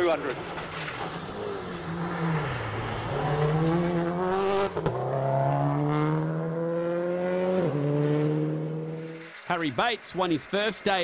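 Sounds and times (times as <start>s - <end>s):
rally car engine revving: 0.2s - 9.4s.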